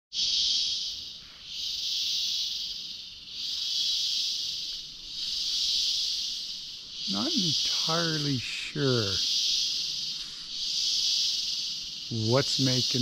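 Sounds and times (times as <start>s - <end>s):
cicadas buzzing: 0.1s - 13.0s.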